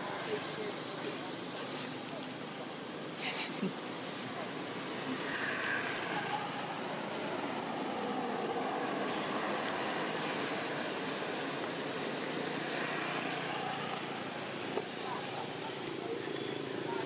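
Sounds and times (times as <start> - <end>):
traffic rushing: 0.0 - 17.0.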